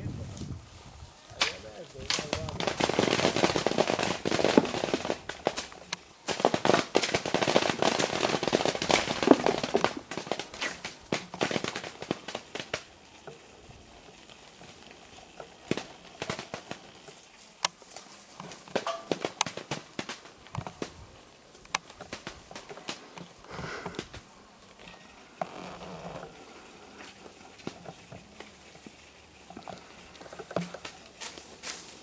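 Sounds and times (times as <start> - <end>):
falling plums patter: 0.0 - 32.0
rustling leaves: 0.0 - 32.0.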